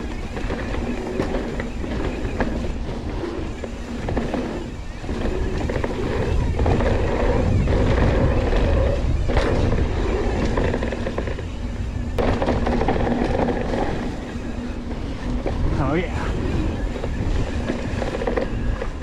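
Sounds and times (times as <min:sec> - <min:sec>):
bike tyres on dirt trail: 0:00.0 - 0:19.0
wind on microphone: 0:00.0 - 0:19.0.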